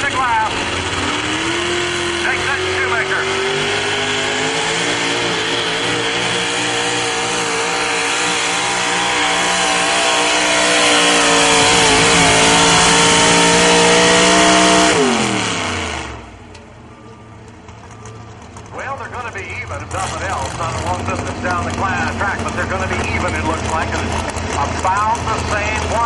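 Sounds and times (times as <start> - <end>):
truck engine at full load: 0.0 - 26.0.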